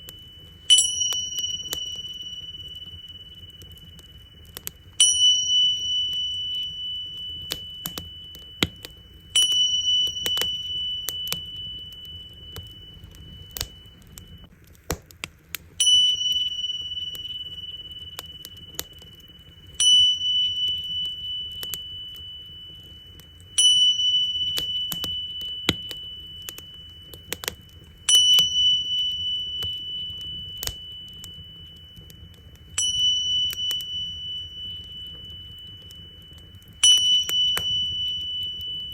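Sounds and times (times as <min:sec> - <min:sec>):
small cymbals ringing: 0:00.0 - 0:14.5, 0:15.7 - 0:38.9
wood fire crackling and popping: 0:00.0 - 0:38.9.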